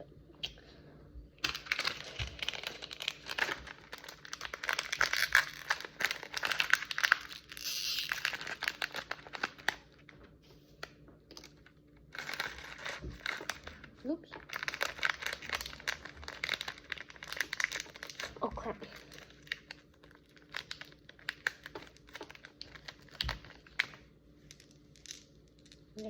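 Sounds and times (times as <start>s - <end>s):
plastic wrapper crinkling and tearing: 1.4s - 26.0s.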